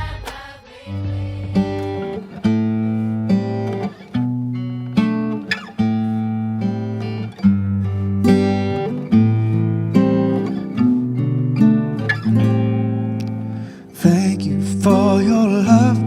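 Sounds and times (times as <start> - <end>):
strummed acoustic guitar chords: 0.0 - 16.0.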